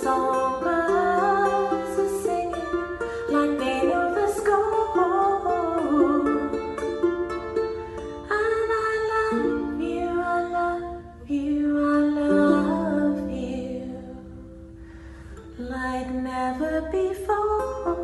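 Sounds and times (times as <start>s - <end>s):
woman singing: 0.0s - 7.0s, 8.2s - 14.6s, 15.5s - 18.0s
strummed ukulele: 0.0s - 18.0s.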